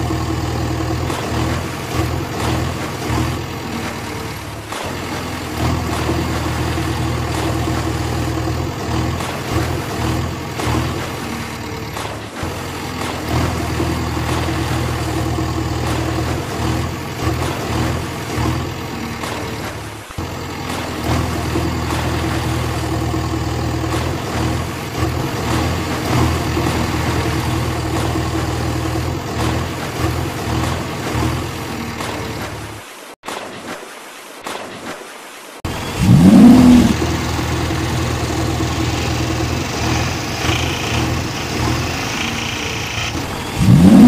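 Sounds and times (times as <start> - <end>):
heavy vehicle engine rumbling: 0.0 - 33.1, 35.7 - 44.0.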